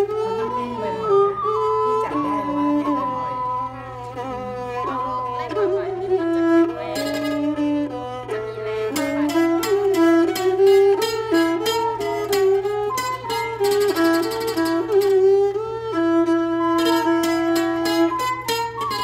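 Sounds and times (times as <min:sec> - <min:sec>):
plucked zither melody: 0:00.0 - 0:19.0.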